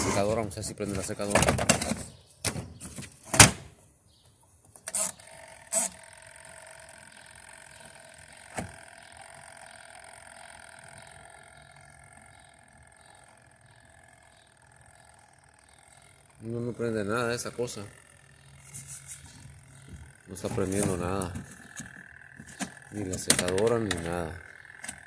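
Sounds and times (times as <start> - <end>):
faint steady hum: 3.9 - 25.0.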